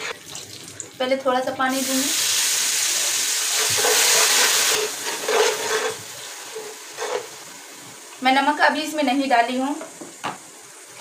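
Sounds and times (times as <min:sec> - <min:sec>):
water sizzling in hot oil: 0:00.0 - 0:11.0.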